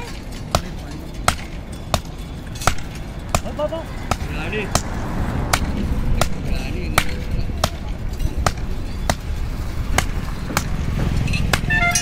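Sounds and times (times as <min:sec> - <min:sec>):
sledgehammers striking hot steel: 0:00.0 - 0:12.0.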